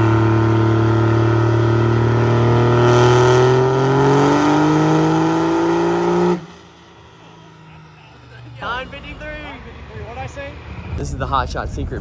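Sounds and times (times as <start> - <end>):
diesel truck engine running hard: 0.0 - 12.0.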